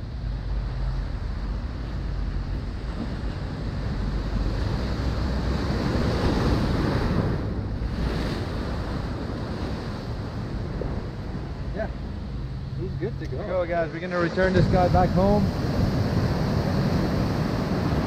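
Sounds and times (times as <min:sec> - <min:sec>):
ocean surf washing on beach: 0:00.0 - 0:18.0
wind rumbling on microphone: 0:00.0 - 0:18.0.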